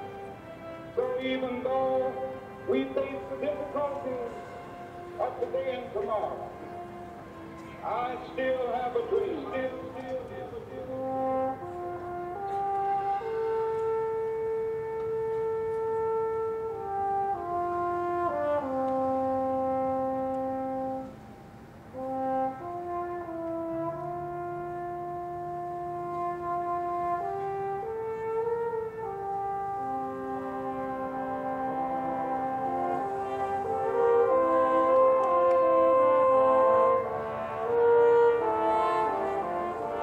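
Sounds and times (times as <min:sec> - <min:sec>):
brass band playing chords: 0:00.0 - 0:40.0.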